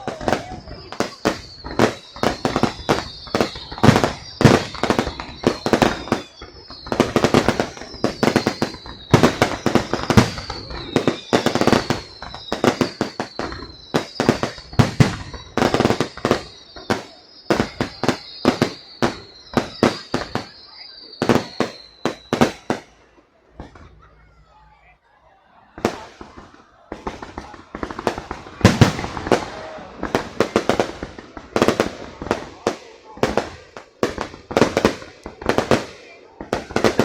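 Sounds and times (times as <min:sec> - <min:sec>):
falling firework whistles: 0:00.0 - 0:24.1, 0:25.8 - 0:37.0.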